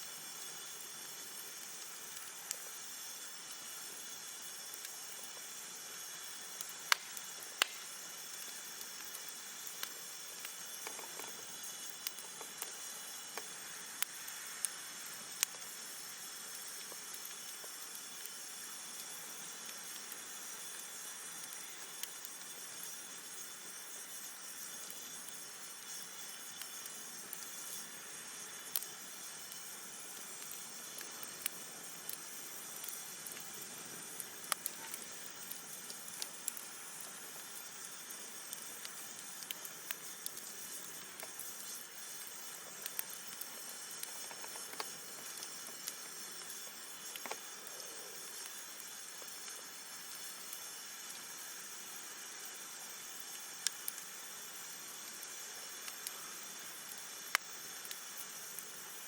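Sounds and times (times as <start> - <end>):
campfire hissing: 0.0 - 59.0
wood crackling and popping: 0.4 - 59.0.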